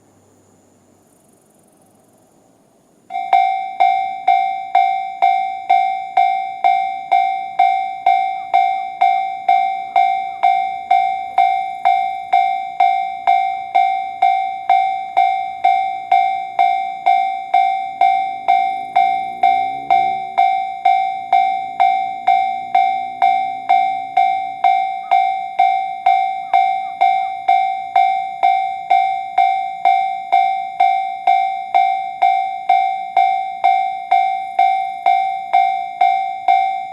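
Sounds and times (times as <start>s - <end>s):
level crossing warning bell: 3.1s - 36.9s.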